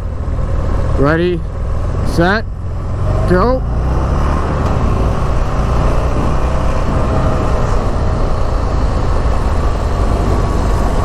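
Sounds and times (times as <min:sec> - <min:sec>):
motorcycle engine under throttle: 0:00.0 - 0:11.0
wind rumble on microphone: 0:00.0 - 0:11.0.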